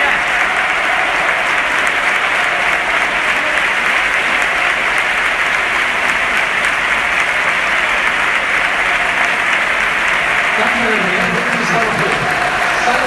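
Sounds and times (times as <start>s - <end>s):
stadium crowd cheering: 0.0s - 13.0s.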